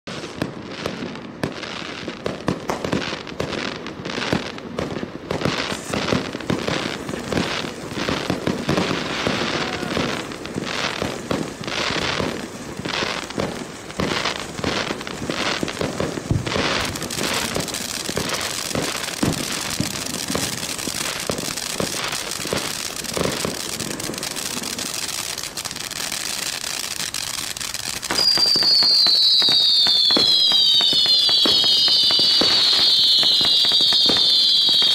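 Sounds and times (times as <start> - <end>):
firework fountain crackling: 0.1 - 34.9
high falling firework whistles: 0.1 - 34.9.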